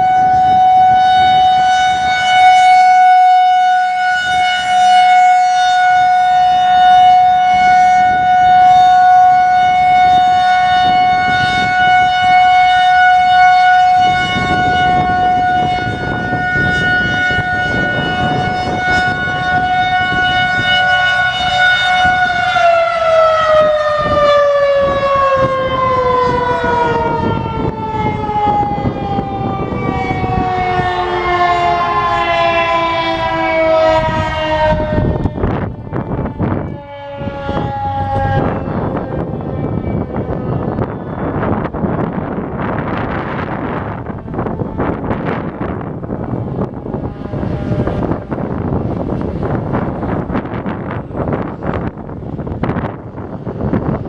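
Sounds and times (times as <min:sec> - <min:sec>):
warning siren steady tone: 0:00.0 - 0:54.0
wind buffeting microphone: 0:00.0 - 0:54.0.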